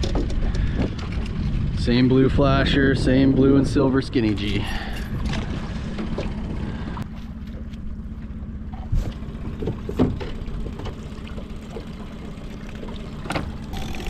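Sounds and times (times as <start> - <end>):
outboard motor droning: 0.0 - 14.0.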